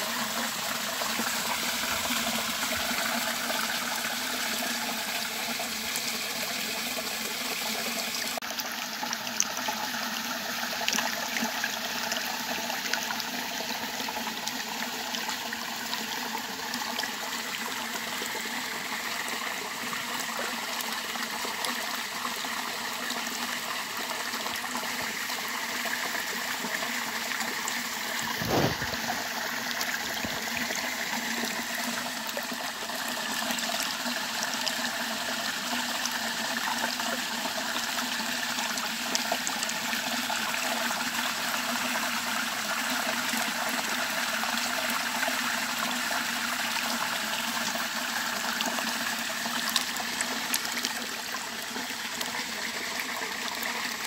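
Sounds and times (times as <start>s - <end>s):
brook babbling over stones: 0.0s - 54.0s.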